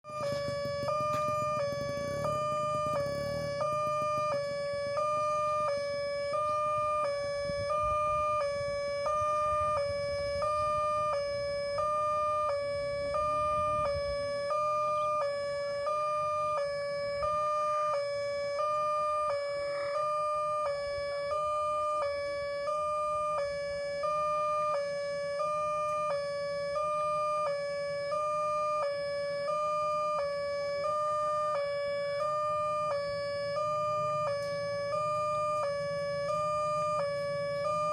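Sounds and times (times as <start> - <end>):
level crossing alarm two-tone: 0.1 - 37.9.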